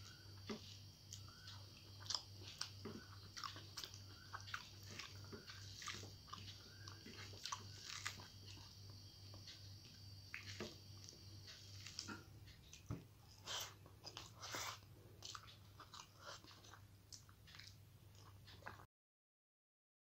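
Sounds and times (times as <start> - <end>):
low steady hum: 0.0 - 18.8
chewing rice: 0.0 - 18.9.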